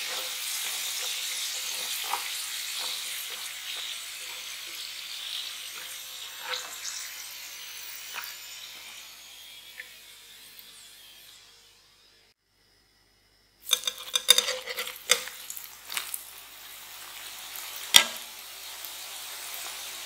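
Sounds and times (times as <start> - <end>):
potato sticks sizzling in hot oil: 0.0 - 11.8, 13.6 - 20.0.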